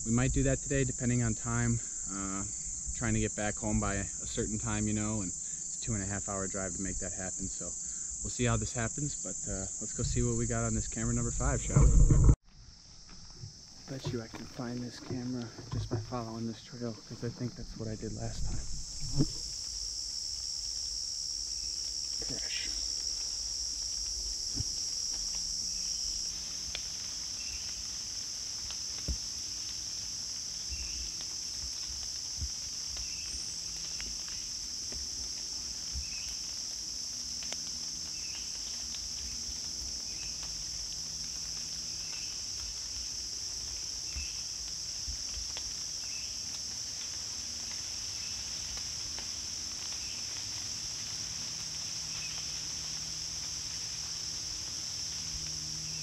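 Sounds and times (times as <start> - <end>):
insect chorus drone: 0.0 - 56.0
short insect chirp: 0.0 - 56.0.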